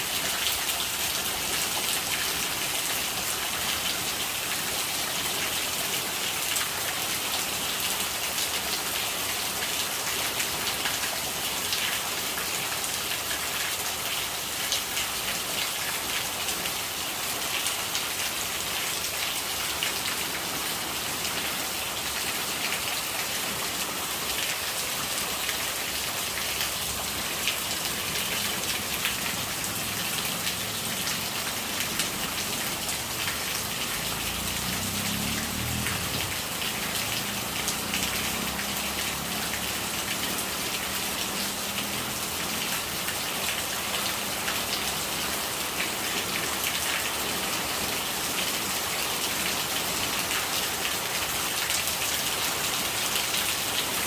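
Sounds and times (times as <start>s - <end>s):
rain pattering: 0.0s - 54.0s
rainwater gurgling: 0.0s - 54.0s.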